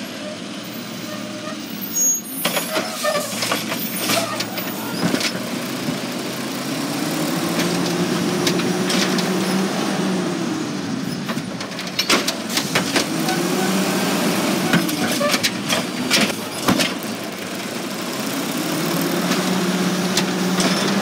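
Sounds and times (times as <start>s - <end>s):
truck engine and hydraulics whining: 0.0s - 21.0s.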